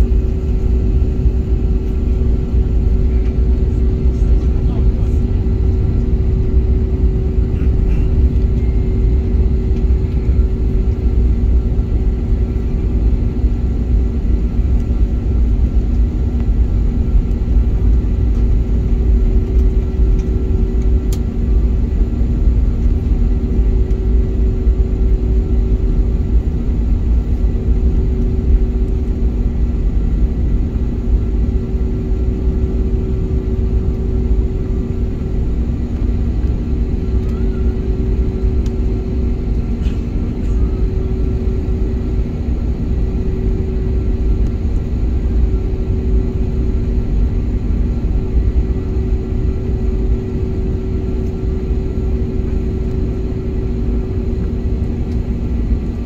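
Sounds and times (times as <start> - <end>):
airplane cabin rumble and hum: 0.0 - 56.0.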